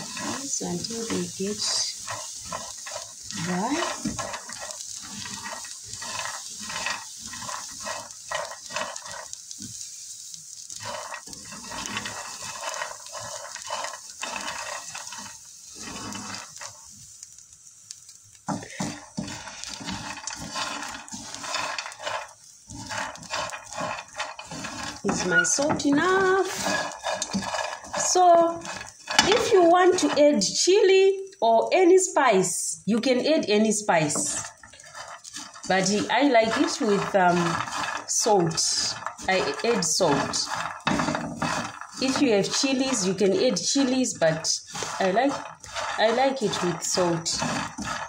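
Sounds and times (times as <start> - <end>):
nuts rattling in a frying pan: 0.0 - 48.0.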